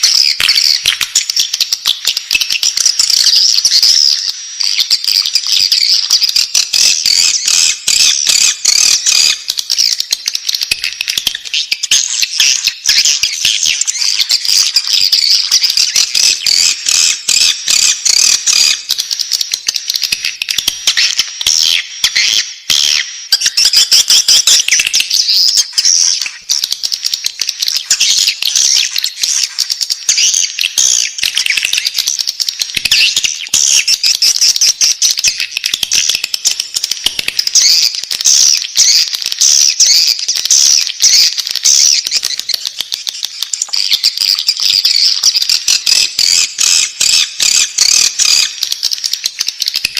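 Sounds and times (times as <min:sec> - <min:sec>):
bird chicks chittering: 0:00.0 - 0:49.9.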